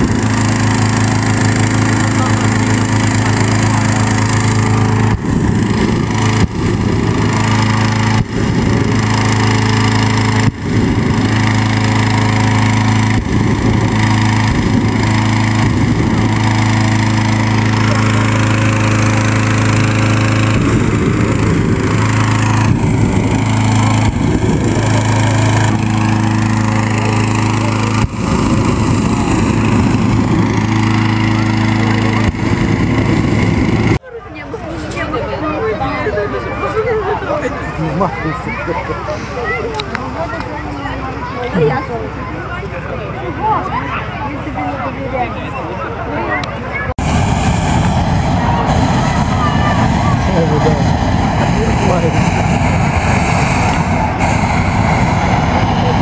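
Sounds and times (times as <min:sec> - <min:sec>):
petrol engine fan running: 0:00.0 - 0:56.0.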